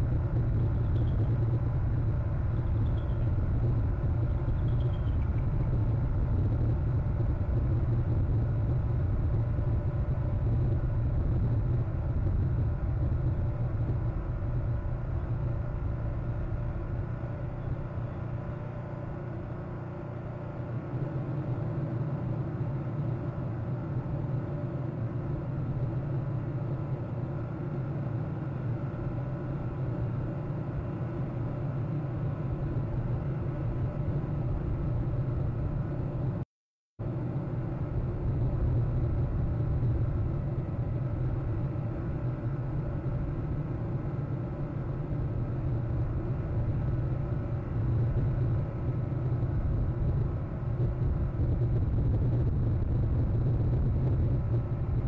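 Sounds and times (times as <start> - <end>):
low outdoor rumble: 0.0 - 36.4, 37.0 - 55.0.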